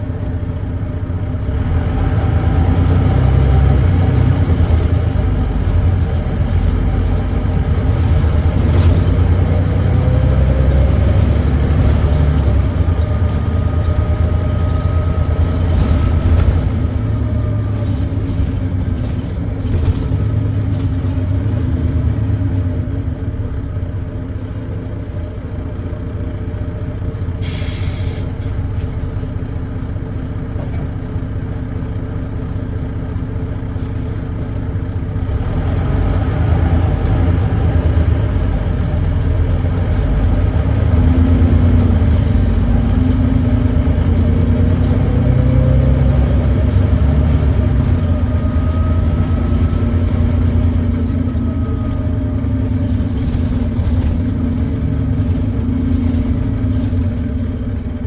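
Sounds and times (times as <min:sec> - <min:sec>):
drivetrain whine: 0:00.0 - 0:27.3, 0:28.4 - 0:58.0
diesel bus engine running: 0:00.0 - 0:58.0.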